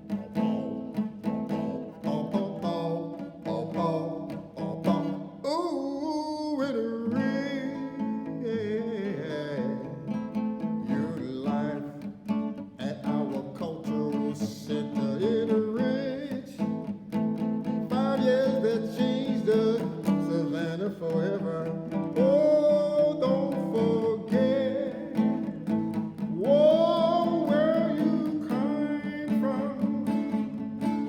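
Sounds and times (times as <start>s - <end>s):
person singing: 0.0s - 16.9s, 17.6s - 31.0s
acoustic guitar: 0.0s - 31.0s.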